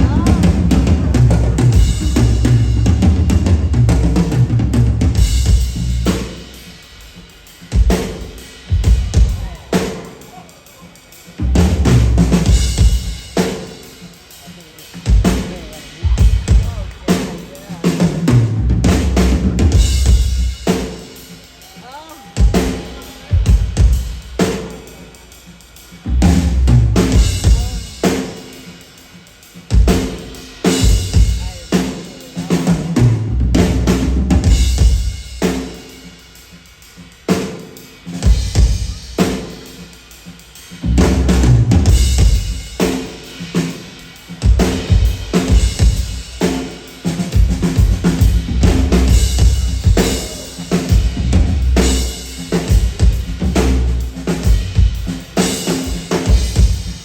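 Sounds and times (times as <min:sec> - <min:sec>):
loud drumming: 0:00.0 - 0:57.0.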